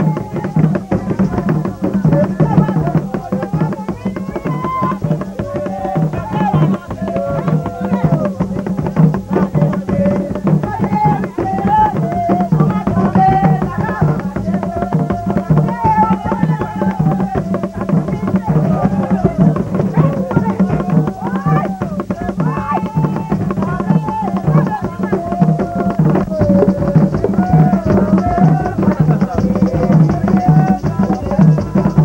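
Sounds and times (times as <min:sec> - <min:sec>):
drums beating a dense rhythm: 0:00.0 - 0:32.0
voices singing: 0:00.0 - 0:32.0.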